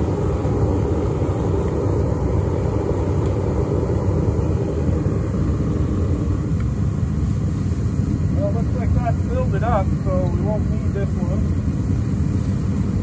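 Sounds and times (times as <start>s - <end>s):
propane burner rushing: 0.0s - 13.0s.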